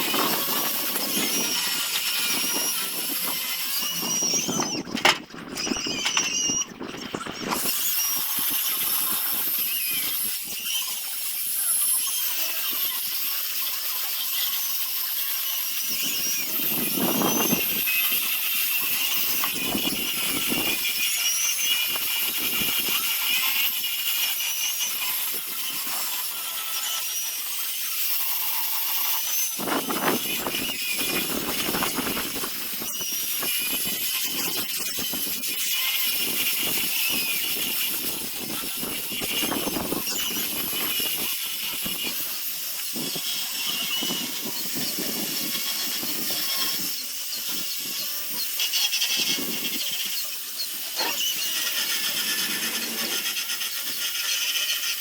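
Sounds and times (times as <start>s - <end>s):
power sander whining on wood: 0.0s - 55.0s.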